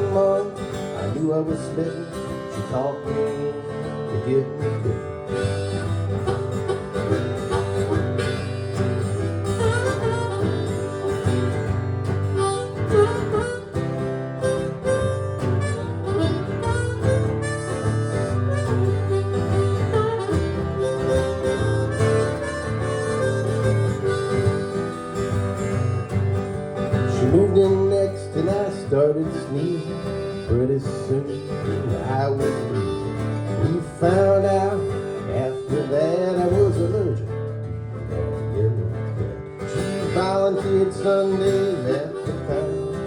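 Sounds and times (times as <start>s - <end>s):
acoustic guitar: 0.0s - 43.0s
blues harmonica solo: 0.0s - 43.0s.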